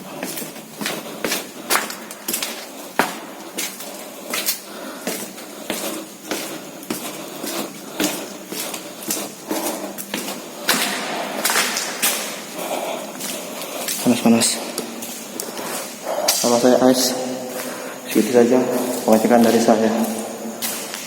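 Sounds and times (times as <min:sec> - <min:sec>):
footsteps on a hard floor: 0:00.0 - 0:21.0.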